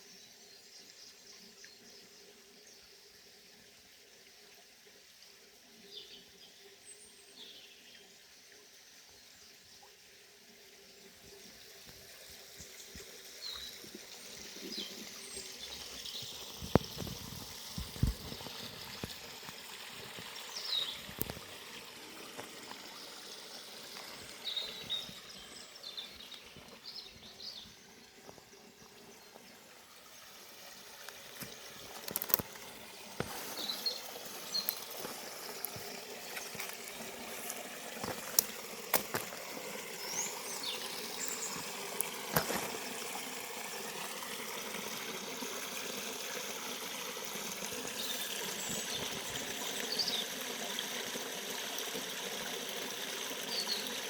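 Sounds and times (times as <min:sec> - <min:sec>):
river trickling over stones: 0:00.0 - 0:54.0.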